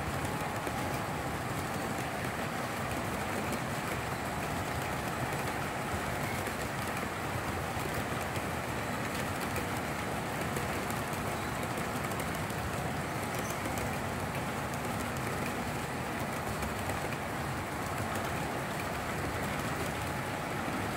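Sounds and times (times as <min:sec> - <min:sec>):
model freight cars rolling on metal track: 0:00.0 - 0:20.9.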